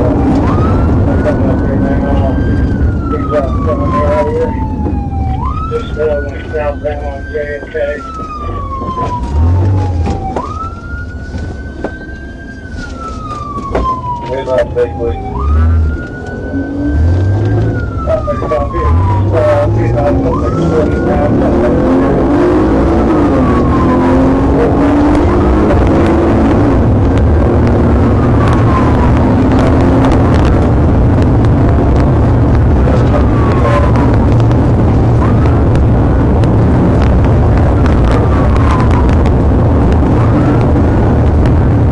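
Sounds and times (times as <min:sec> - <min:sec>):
car engine and road noise: 0:00.0 - 0:41.9
low vehicle rumble: 0:00.0 - 0:41.9
police siren wailing: 0:00.0 - 0:41.9.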